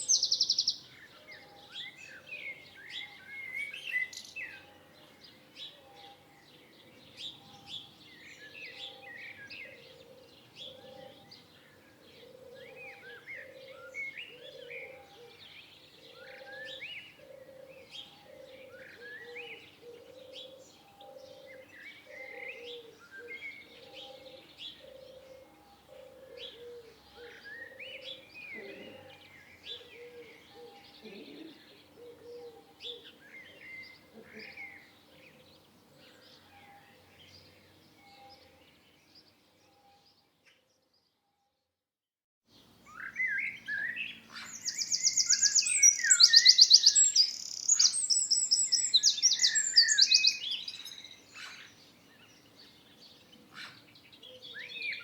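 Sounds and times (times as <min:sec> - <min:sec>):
songbirds chirping and singing: 0:00.0 - 0:41.2, 0:42.5 - 0:55.0.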